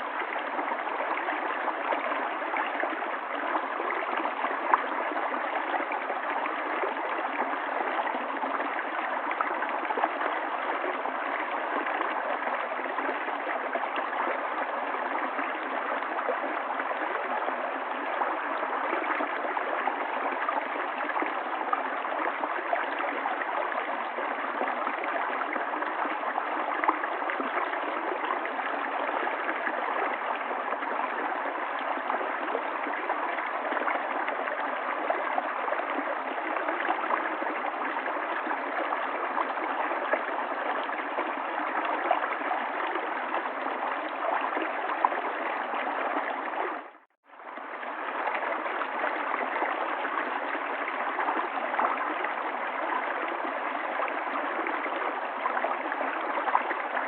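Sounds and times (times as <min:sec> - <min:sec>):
river water gurgling over stones: 0:00.0 - 0:57.0.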